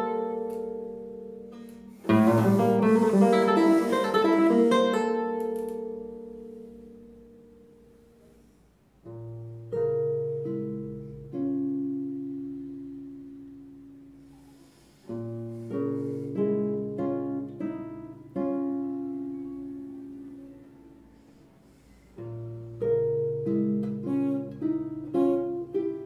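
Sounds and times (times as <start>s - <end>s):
classical guitar playing: 0.0s - 26.0s.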